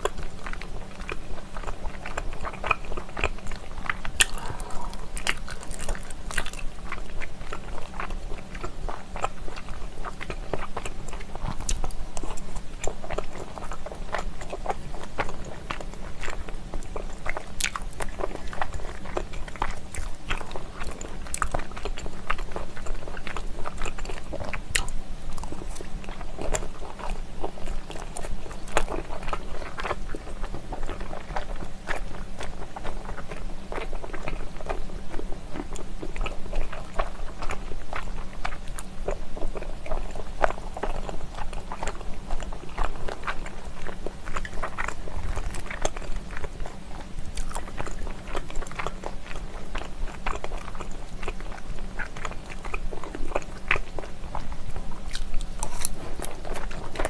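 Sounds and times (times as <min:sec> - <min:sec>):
chewing with wet mouth clicks: 0:00.0 - 0:57.0.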